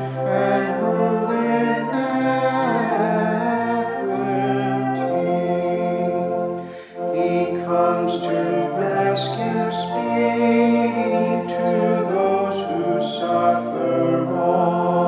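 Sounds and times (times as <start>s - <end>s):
congregation singing a hymn: 0.0s - 15.0s
organ chords: 0.0s - 15.0s.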